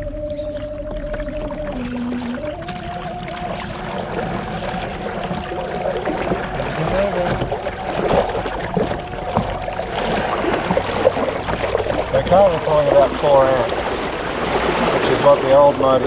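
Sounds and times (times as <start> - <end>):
water rushing past hull: 0.0 - 16.0.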